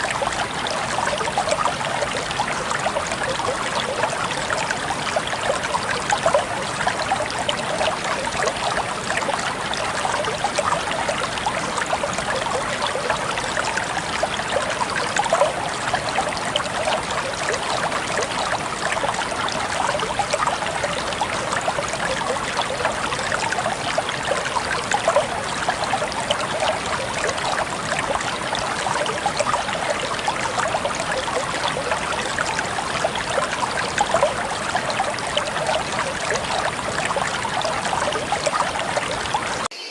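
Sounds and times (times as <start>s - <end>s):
stream trickling and burbling: 0.0s - 39.9s.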